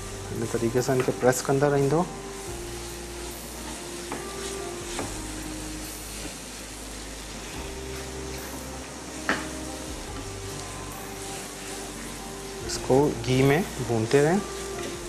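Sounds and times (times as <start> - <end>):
food sizzling in a wok: 0.0 - 15.0
spatula stirring in a wok: 0.0 - 15.0.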